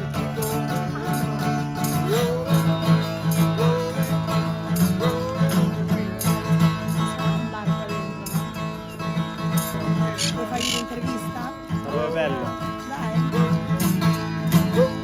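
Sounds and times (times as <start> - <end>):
plucked string accompaniment: 0.0 - 15.0.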